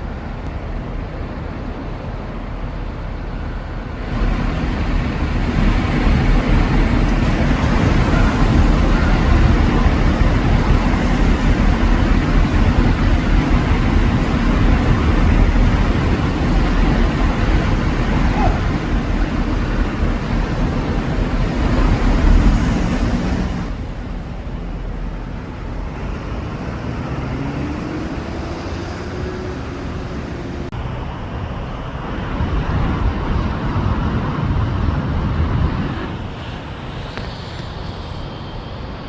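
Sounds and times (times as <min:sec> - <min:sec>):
vehicle engines passing: 0:00.0 - 0:39.0.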